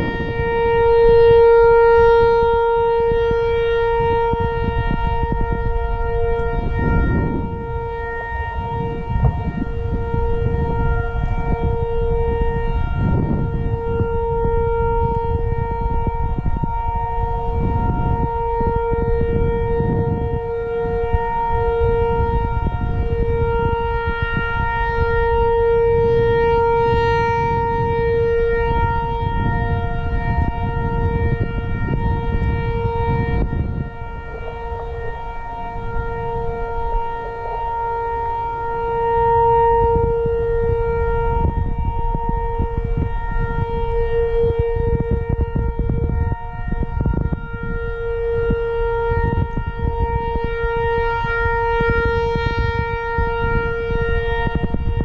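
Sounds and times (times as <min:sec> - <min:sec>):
warning siren: 0:00.0 - 0:55.0.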